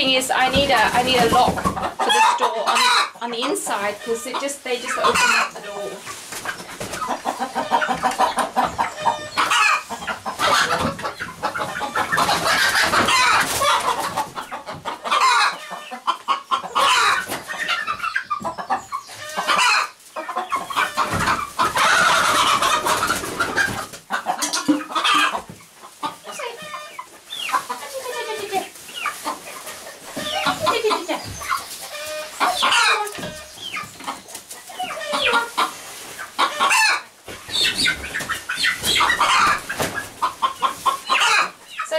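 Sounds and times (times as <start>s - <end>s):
young chickens clucking: 0.0s - 41.9s.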